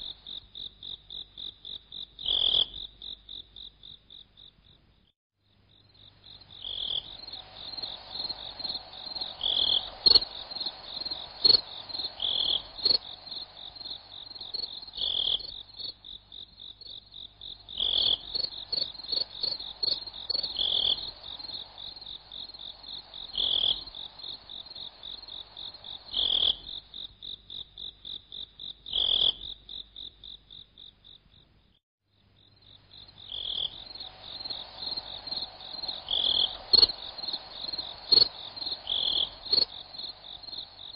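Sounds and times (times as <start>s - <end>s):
crickets and frogs trilling: 5.7s - 31.5s, 32.4s - 40.9s.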